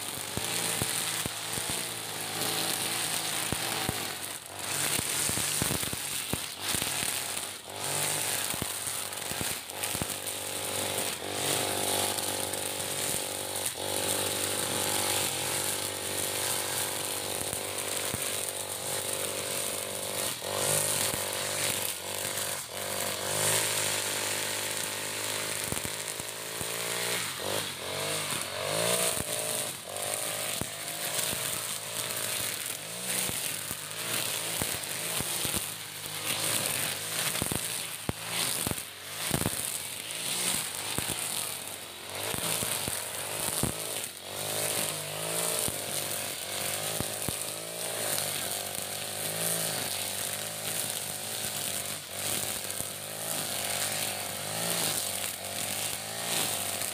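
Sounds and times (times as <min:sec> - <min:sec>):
brush cutter engine revving: 0:00.0 - 0:56.9
trimmer line cutting grass: 0:00.0 - 0:56.9.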